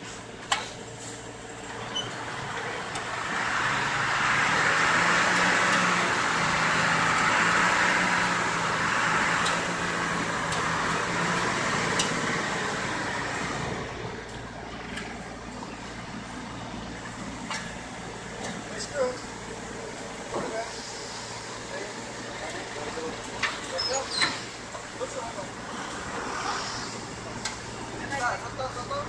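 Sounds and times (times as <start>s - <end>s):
truck engine revving: 1.5s - 20.3s, 21.0s - 29.0s.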